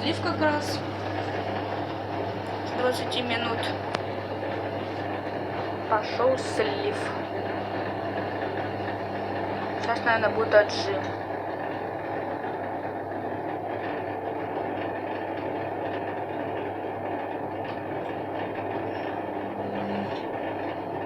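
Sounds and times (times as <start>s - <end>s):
drain pump humming: 0.0s - 21.0s.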